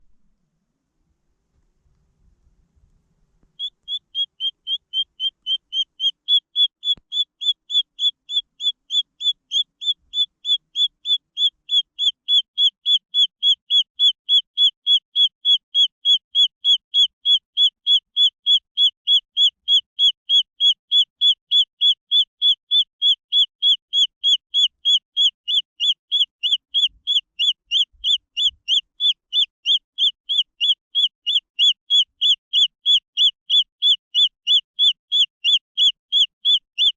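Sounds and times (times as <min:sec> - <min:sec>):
chick peeping: 0:03.5 - 0:36.9.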